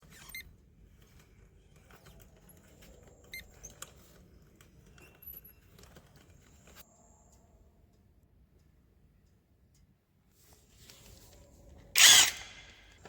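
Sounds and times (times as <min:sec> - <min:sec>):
faint clicks and taps: 0:00.3 - 0:11.9.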